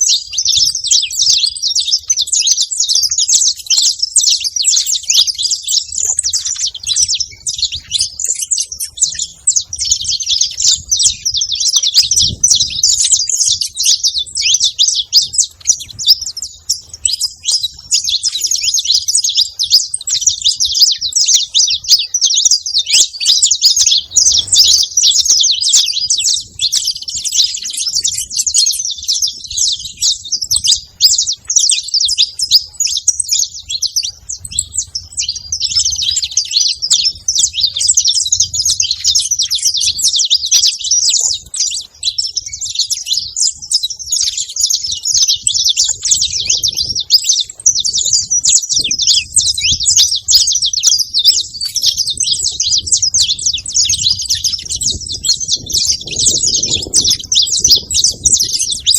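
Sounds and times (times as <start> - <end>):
finch chirping: 0.0 - 58.9.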